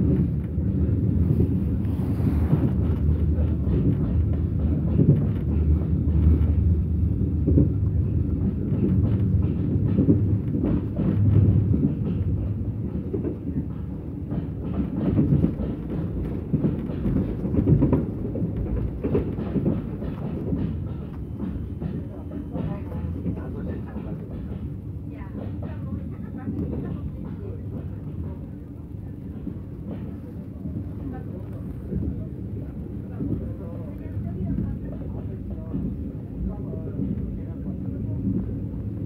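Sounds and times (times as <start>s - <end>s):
train rumbling inside carriage: 0.0s - 39.0s.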